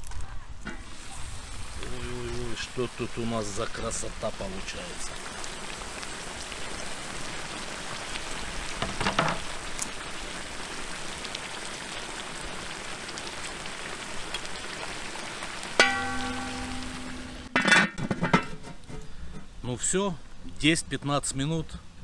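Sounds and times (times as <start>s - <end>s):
stew bubbling and sizzling: 0.0s - 21.9s.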